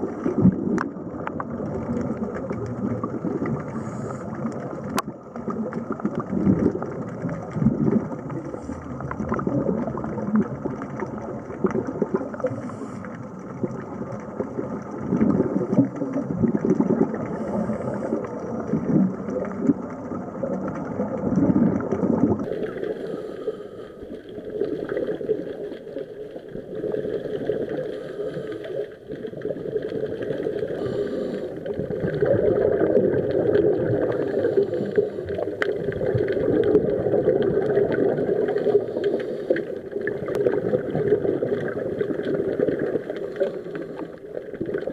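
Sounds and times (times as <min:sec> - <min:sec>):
underwater bubbling: 0:00.0 - 0:44.9
underwater churning rumble: 0:00.0 - 0:44.9.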